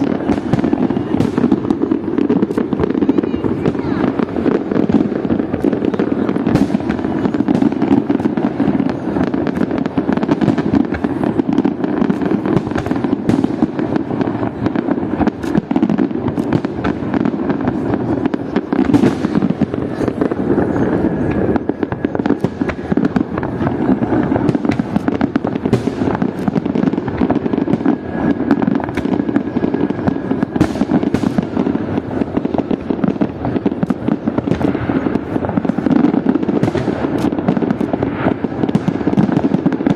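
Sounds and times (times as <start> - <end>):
fireworks bursting and crackling: 0.0 - 39.9
sharp fireworks bangs: 0.0 - 39.9.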